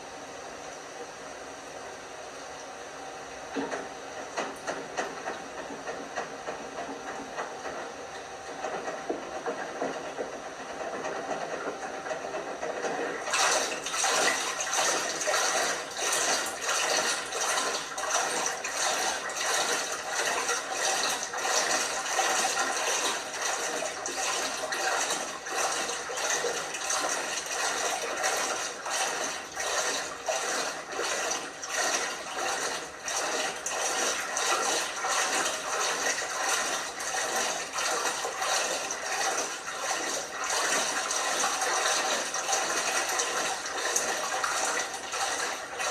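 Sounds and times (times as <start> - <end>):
water rushing in washing machine: 0.0 - 45.9.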